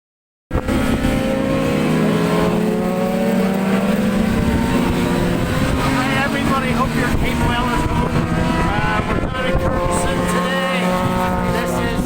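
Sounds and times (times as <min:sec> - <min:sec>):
motorcycle engine running: 0:00.5 - 0:12.0
wind buffeting microphone: 0:00.5 - 0:12.0.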